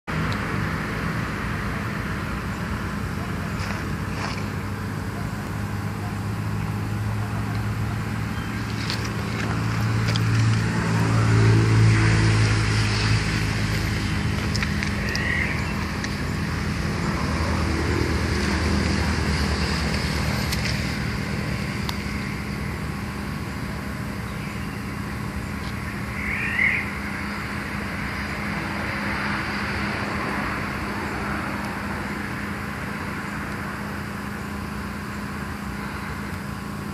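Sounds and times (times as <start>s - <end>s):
low hum rumble: 0.1s - 36.9s.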